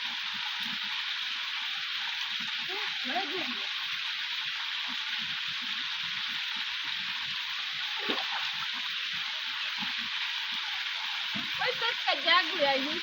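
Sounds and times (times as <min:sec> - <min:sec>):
waterfall pouring into river: 0:00.0 - 0:13.0.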